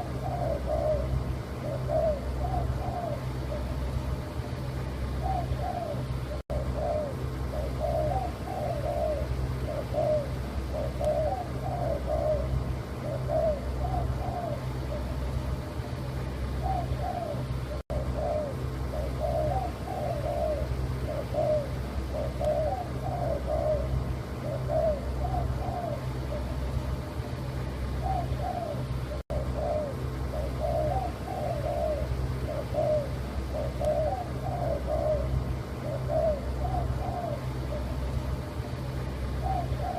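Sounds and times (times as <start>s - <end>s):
dove cooing: 0.0s - 39.9s
steady low hum: 0.0s - 39.9s.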